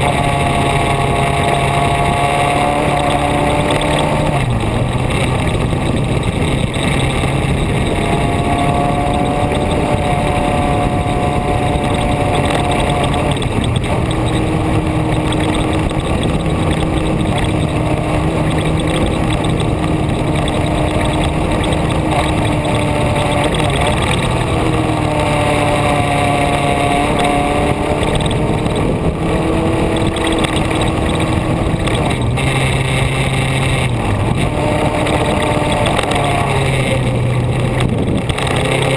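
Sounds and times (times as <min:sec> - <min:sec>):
vehicle engine revving: 0:00.0 - 0:38.9
wind and road noise: 0:00.0 - 0:38.9.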